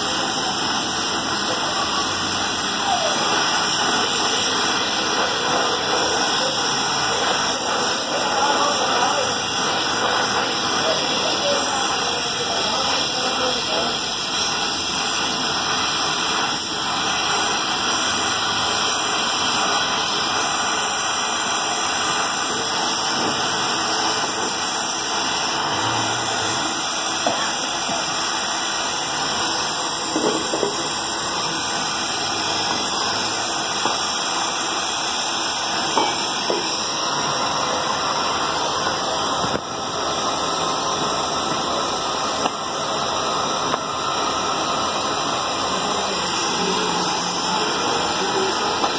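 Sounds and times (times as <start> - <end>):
torch flame hissing: 0.0 - 48.9.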